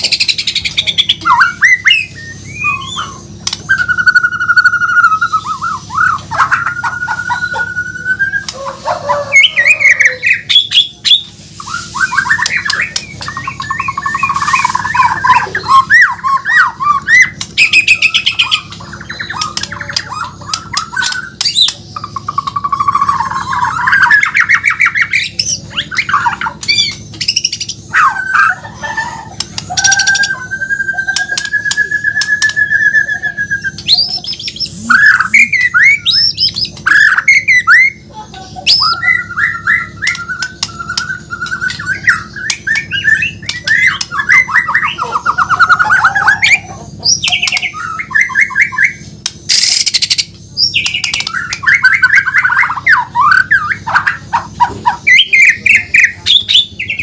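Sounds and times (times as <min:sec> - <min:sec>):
bird singing whistles and trills: 0:00.0 - 0:57.0
low steady hum: 0:00.0 - 0:57.0.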